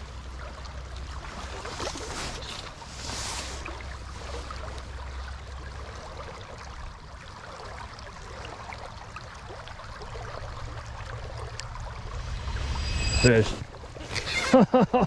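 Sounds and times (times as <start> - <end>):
river current rushing and babbling: 0.0 - 14.9.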